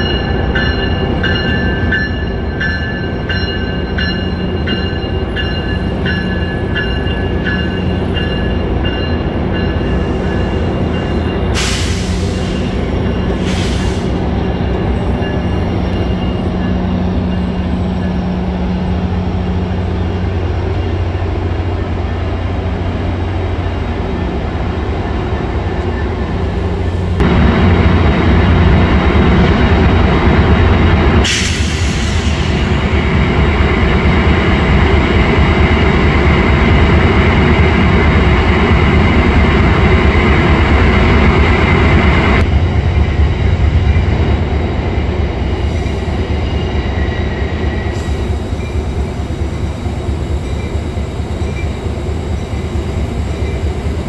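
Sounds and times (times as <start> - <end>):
diesel locomotive rumble: 0.0 - 54.0.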